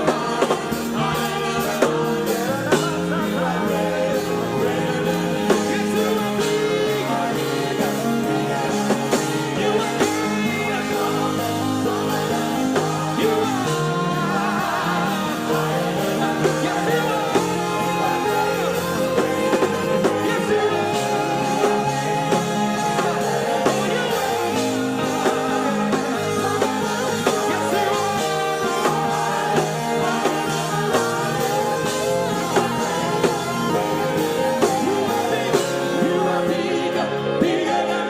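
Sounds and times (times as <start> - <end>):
bass guitar: 0.0 - 38.0
drum kit steady beat: 0.0 - 38.0
electric guitar: 0.0 - 38.0
person singing: 0.0 - 38.0.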